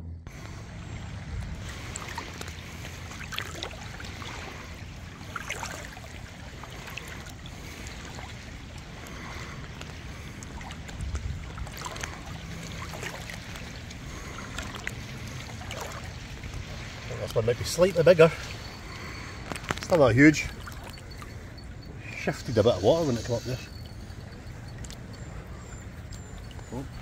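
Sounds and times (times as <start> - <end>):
wind rumble on microphone: 0.0 - 27.0
water lapping at the shore: 0.3 - 27.0.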